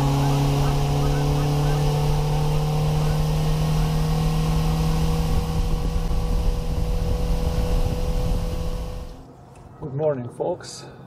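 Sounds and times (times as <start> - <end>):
wind rumbling on microphone: 0.0 - 9.2
boat motor humming: 0.0 - 9.3.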